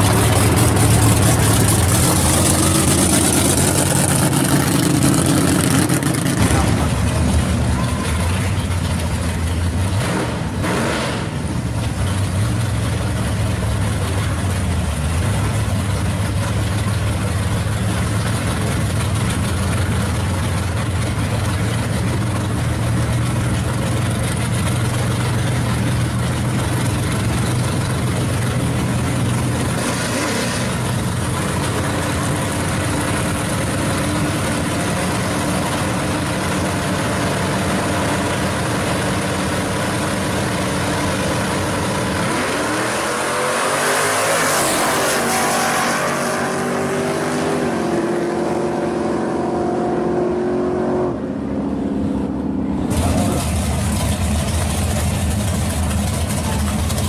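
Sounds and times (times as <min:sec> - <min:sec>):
drag car engines idling: 0:00.0 - 0:10.6, 0:11.2 - 0:43.2, 0:51.6 - 0:57.0.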